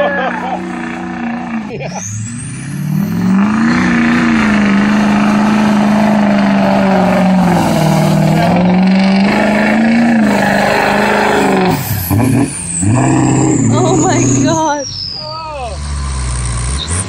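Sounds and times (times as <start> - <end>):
turbocharged engine at high revs: 0.0 - 14.8, 15.6 - 17.0
tyres churning through mud: 0.0 - 14.8.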